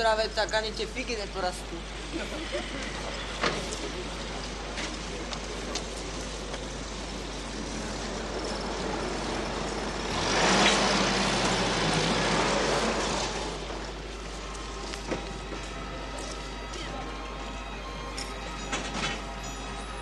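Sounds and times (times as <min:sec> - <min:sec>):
vehicle engine running: 0:00.0 - 0:16.4.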